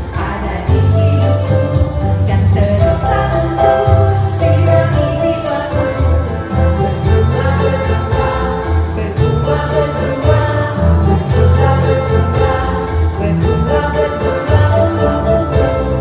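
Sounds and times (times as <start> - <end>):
backing track with beat and bass: 0.0 - 16.0
voices singing: 0.0 - 16.0.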